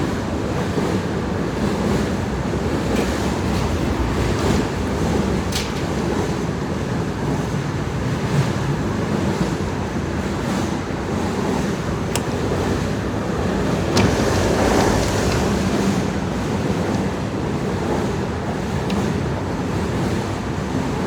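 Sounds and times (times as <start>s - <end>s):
train rumbling over bridge: 0.0s - 21.0s.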